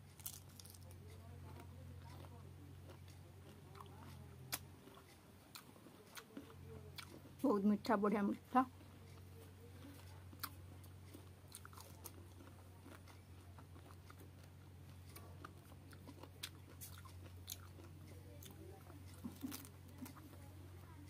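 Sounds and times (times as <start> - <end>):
person chewing fruit: 0.0 - 7.7, 8.3 - 21.0
steady low hum: 0.0 - 21.0.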